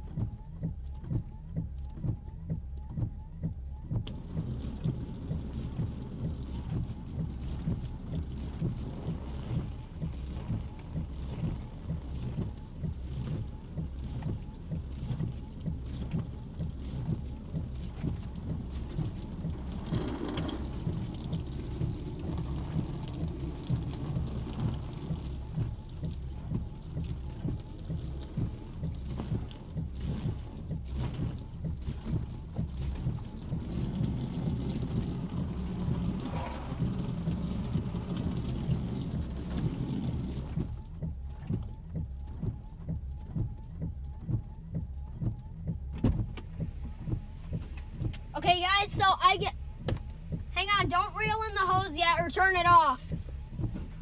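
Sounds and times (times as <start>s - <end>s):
hose spraying water on car: 4.0s - 54.0s.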